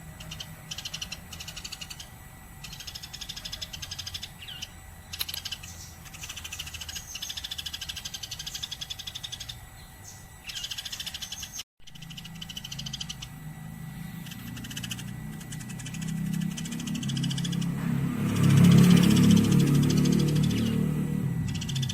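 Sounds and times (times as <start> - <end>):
low hum: 0.0 - 21.9
sparrows chirping: 0.0 - 21.9.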